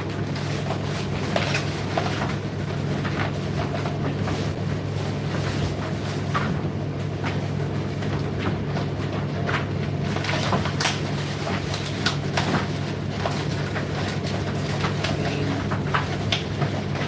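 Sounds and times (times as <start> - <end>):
tumble dryer motor hum: 0.0 - 17.0.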